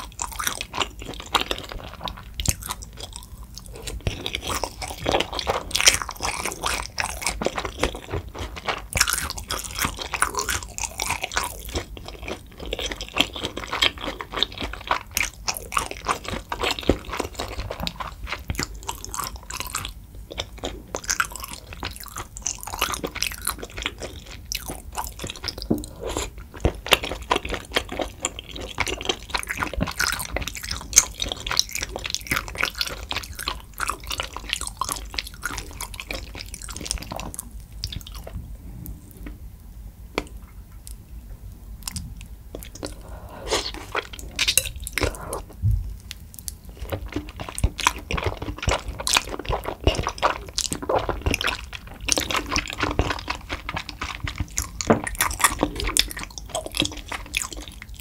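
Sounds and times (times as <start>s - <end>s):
close-miked chewing and biting: 0.0s - 38.4s, 41.8s - 58.0s.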